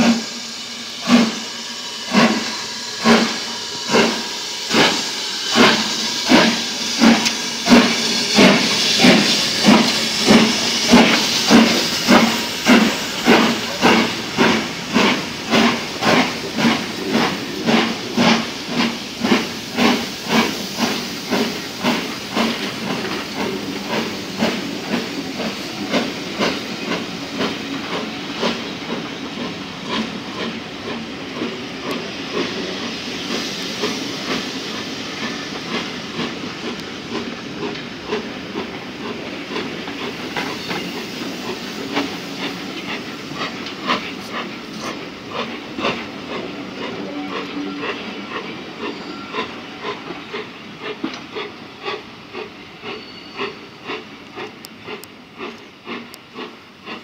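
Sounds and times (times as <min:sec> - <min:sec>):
steam hissing: 0:00.0 - 0:57.0
steam locomotive exhaust beat: 0:00.0 - 0:57.0
train coaches rattling: 0:00.0 - 0:57.0.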